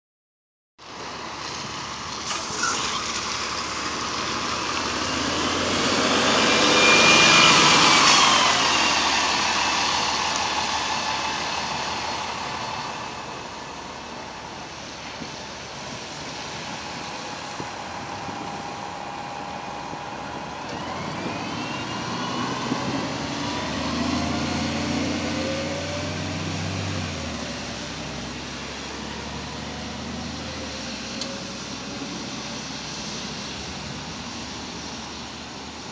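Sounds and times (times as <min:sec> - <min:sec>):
diesel bus engine whining: 0:00.8 - 0:35.9.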